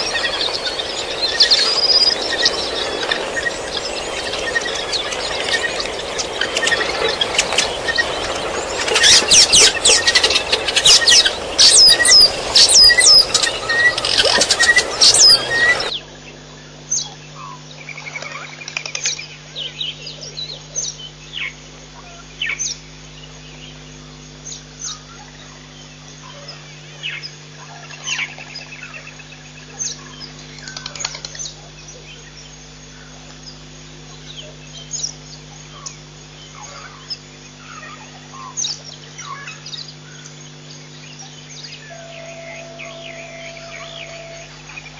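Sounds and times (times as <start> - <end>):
birds chirping: 0.0 - 44.9
low steady hum: 0.0 - 44.9.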